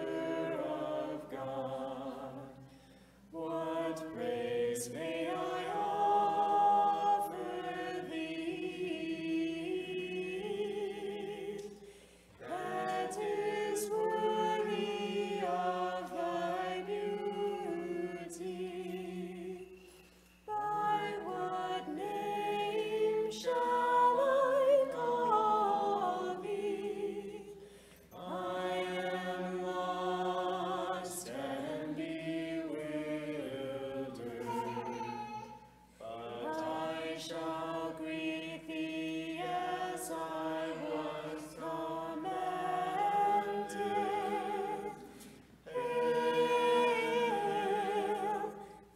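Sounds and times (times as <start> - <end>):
choir singing chant: 0.0 - 11.8, 12.4 - 19.8, 20.5 - 48.9.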